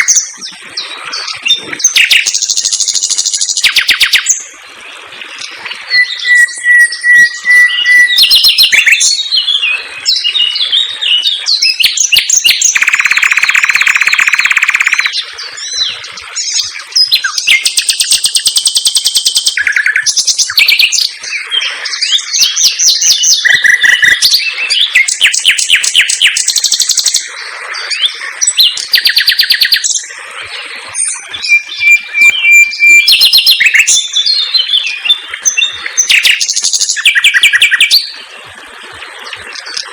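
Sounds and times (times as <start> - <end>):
nightingale singing: 1.2 - 4.5, 5.9 - 27.2, 27.9 - 30.1, 31.0 - 38.1.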